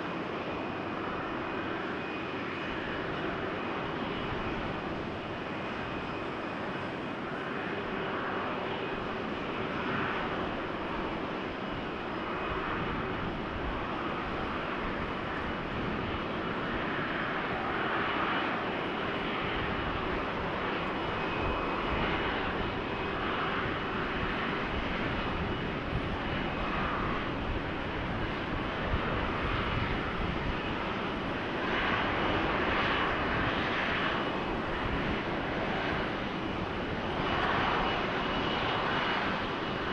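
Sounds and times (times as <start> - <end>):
jet engines running while taxiing: 0.0 - 39.9.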